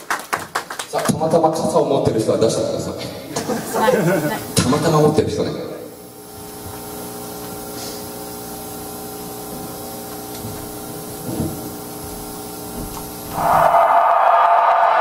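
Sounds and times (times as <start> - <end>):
electrical hum and hiss: 1.2 - 13.7.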